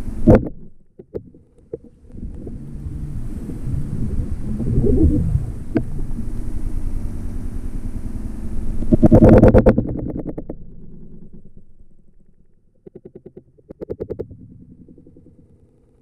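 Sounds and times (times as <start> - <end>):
low rumble of water: 0.0 - 16.0.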